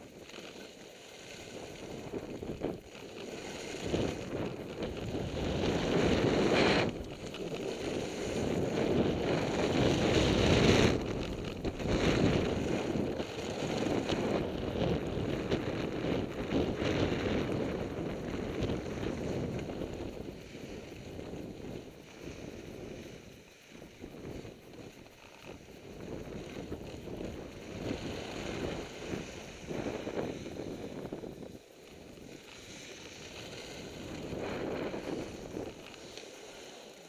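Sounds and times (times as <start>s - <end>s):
skis scraping over snow: 0.0s - 37.0s
wind rushing over microphone: 0.0s - 37.0s.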